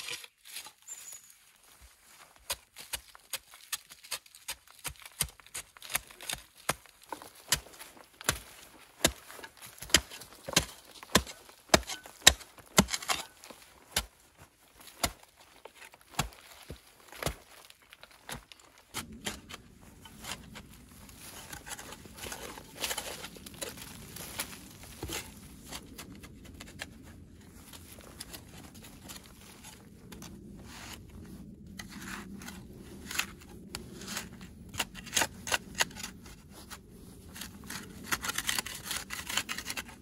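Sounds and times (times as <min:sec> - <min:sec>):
scraping and soil falling: 0:00.0 - 0:40.0.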